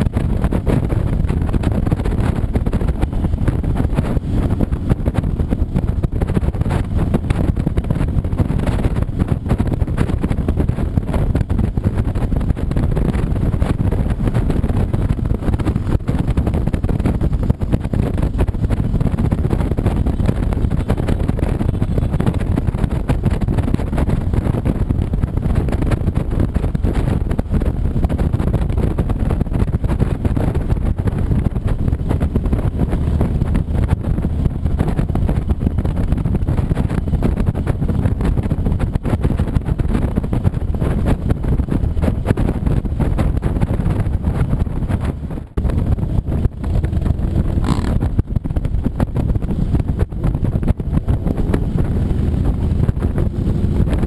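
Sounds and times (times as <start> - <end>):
motorcycle engine rumble: 0.0 - 54.0
wind noise on microphone: 0.0 - 54.0.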